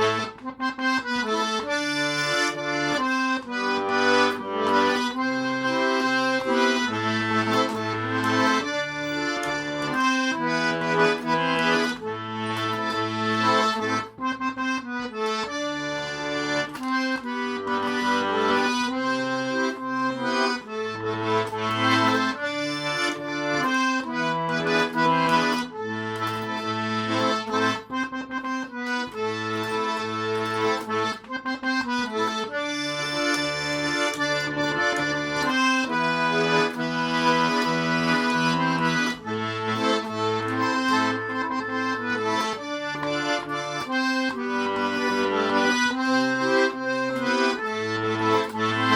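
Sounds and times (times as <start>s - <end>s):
button accordion melody: 0.0s - 48.9s.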